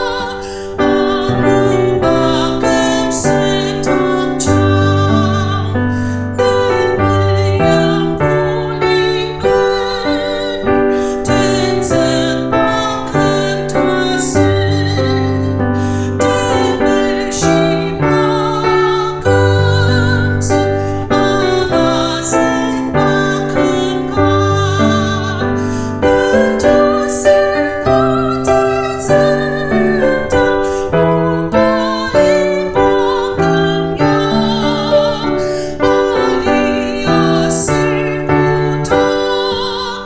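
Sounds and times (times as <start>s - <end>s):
slow piano piece: 0.0s - 40.0s.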